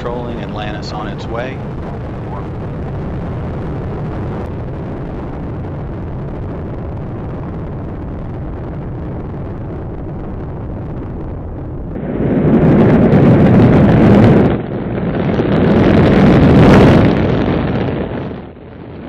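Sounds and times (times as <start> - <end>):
rocket engines rumbling: 0.0 - 19.0.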